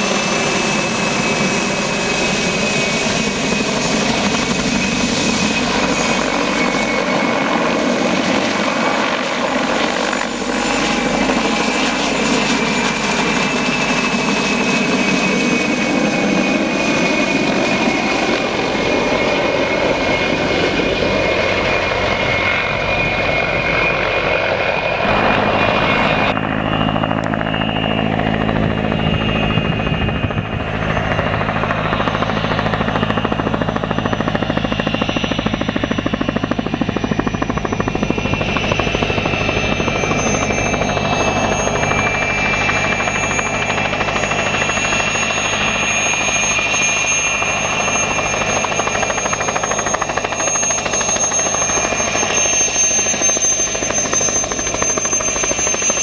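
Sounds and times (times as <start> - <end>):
helicopter rotor blades beating: 0.0 - 56.0
turbine engine whine: 0.0 - 56.0.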